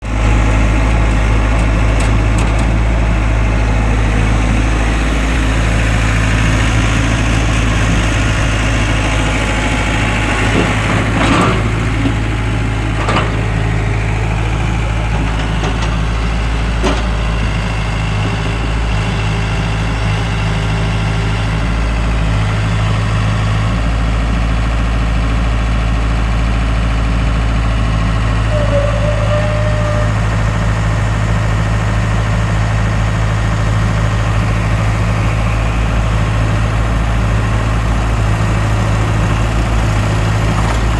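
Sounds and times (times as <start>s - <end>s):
tractor engine humming: 0.0s - 40.9s.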